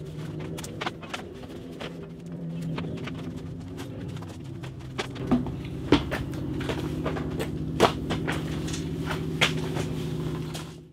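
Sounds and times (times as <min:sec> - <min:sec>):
footsteps: 0:00.0 - 0:10.9
steady low hum: 0:00.0 - 0:10.9.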